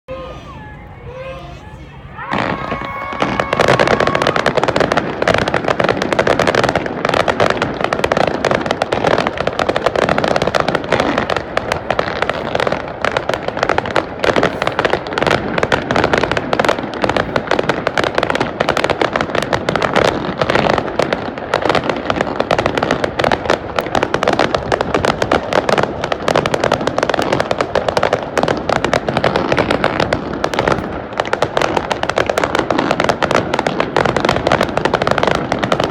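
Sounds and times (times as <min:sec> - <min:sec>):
fireworks cracking and banging: 0:00.1 - 0:35.9.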